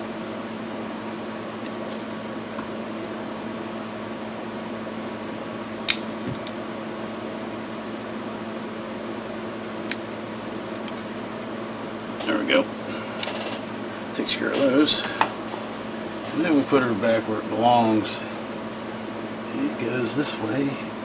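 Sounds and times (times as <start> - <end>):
fan hum: 0.0 - 21.0.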